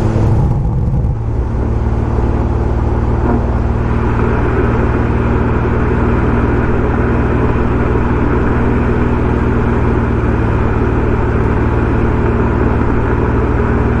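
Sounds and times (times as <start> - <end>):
car engine droning steadily: 0.0 - 14.0.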